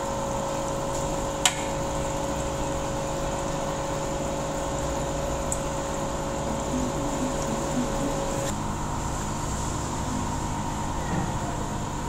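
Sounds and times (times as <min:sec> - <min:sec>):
aquarium air pump humming: 0:00.0 - 0:12.0
bubbling water: 0:00.0 - 0:12.0.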